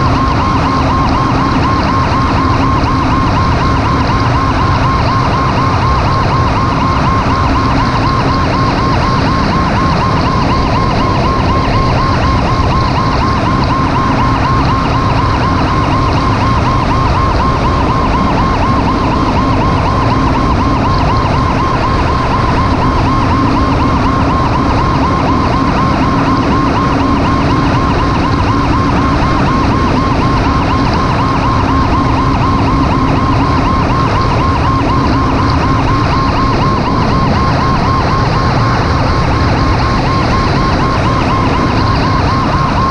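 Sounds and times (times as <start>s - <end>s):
road and engine noise: 0.0s - 42.9s
siren warbling: 0.0s - 42.9s.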